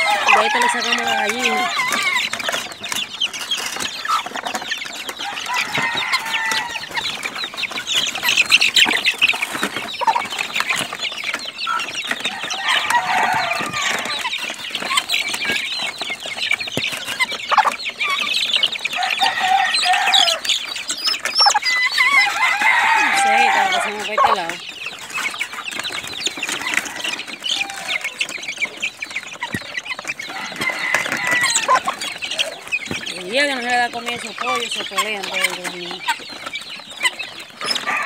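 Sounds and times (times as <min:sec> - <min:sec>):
chicks peeping and clucking: 0:00.0 - 0:38.0.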